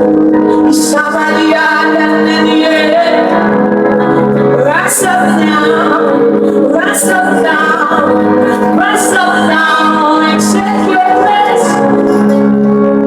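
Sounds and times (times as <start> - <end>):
sustained instrumental chords: 0.0 - 13.0
woman singing worship music: 0.3 - 13.0.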